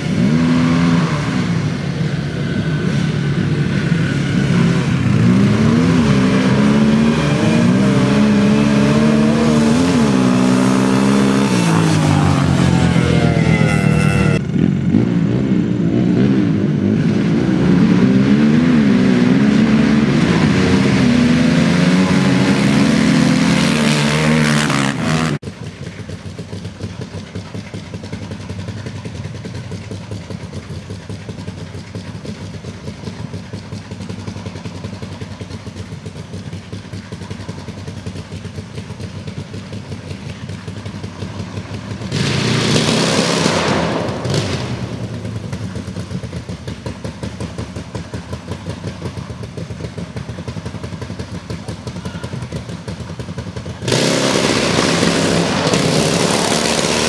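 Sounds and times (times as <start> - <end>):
atv engines at full throttle: 0.0 - 57.0
dirt bike engine idling and revving: 0.0 - 57.0.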